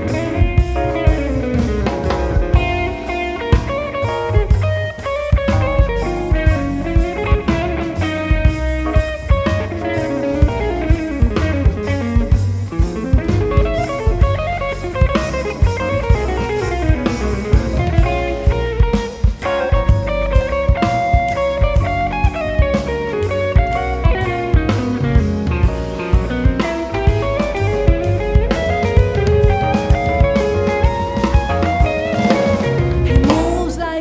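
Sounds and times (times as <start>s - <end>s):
guitar: 0.0s - 34.0s
jazz band playing: 0.0s - 34.0s.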